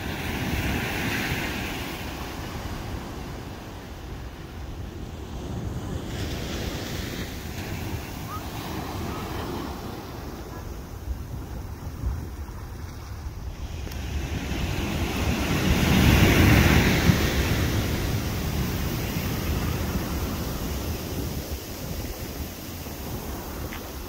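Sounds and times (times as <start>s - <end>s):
ocean surf breaking on sand: 0.0s - 24.0s.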